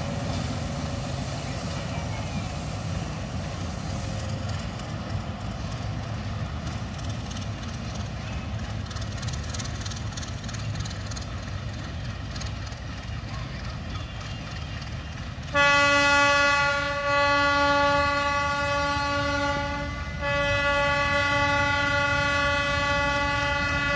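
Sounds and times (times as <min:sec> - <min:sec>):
locomotive engine droning: 0:00.0 - 0:23.9.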